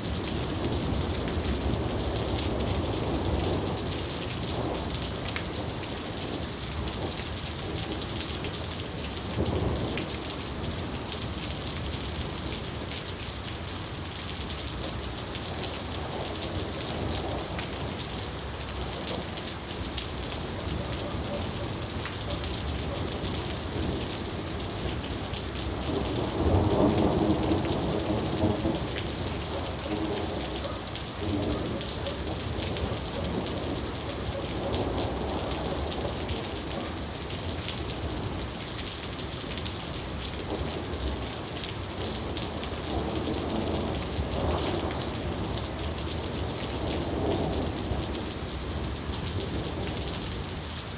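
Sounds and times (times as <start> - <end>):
rain pattering: 0.0 - 50.9.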